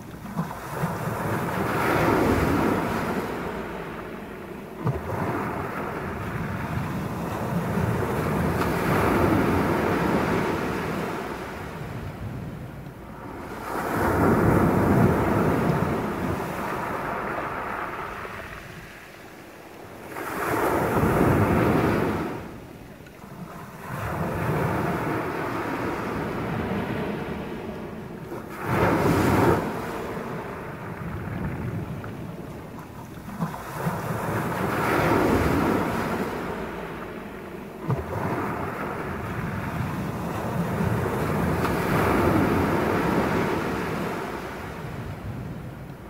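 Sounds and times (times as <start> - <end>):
waves washing over pebbles: 0.0 - 46.0.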